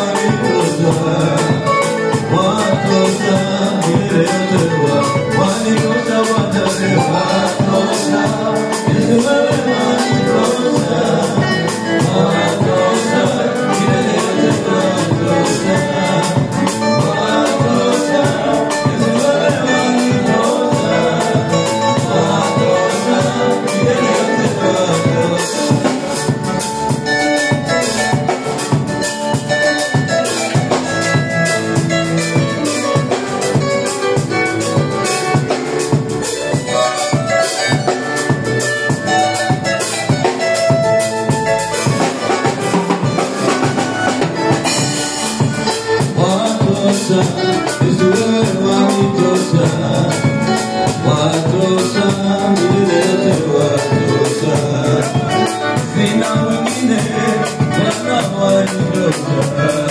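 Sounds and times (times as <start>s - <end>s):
drum kit: 0.0s - 59.9s
electric guitar: 0.0s - 59.9s
keyboard: 0.0s - 59.9s
person singing: 0.0s - 59.9s.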